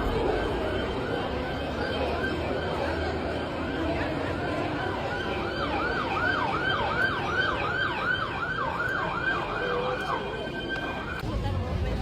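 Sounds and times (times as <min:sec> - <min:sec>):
emergency siren yelping: 0:00.0 - 0:11.2.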